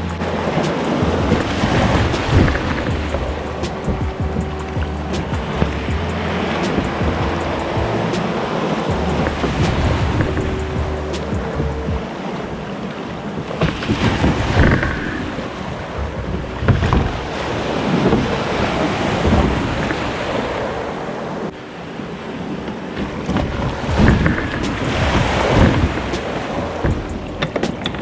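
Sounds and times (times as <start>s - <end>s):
sea surf washing in: 0.0s - 28.0s
wind buffeting microphone: 0.0s - 28.0s.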